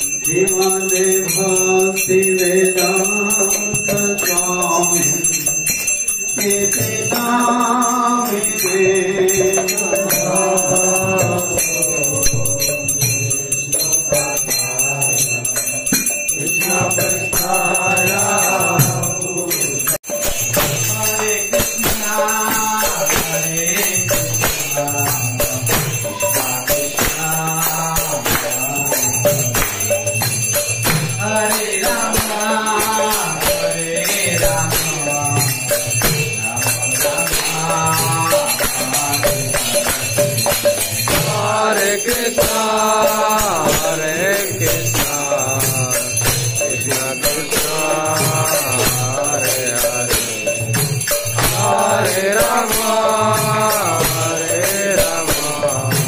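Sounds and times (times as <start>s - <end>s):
bell ringing: 0.0s - 56.0s
devotional singing: 0.0s - 56.0s.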